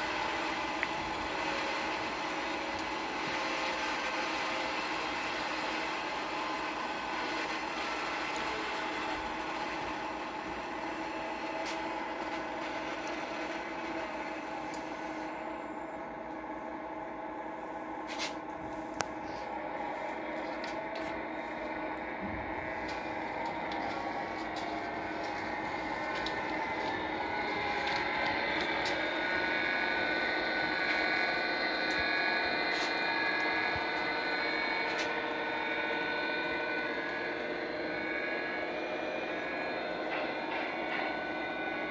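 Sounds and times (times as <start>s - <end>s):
model train motor humming: 0.0s - 16.9s, 18.9s - 41.9s.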